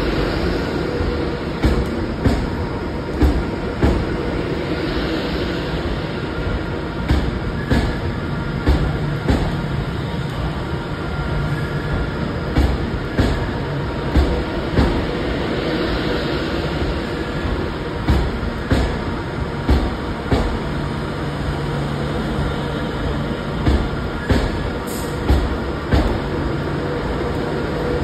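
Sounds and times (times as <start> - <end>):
electric train rumble and hum: 0.0 - 28.0
train wheels knocking on rail joints: 0.3 - 4.4, 6.4 - 10.0, 11.8 - 28.0.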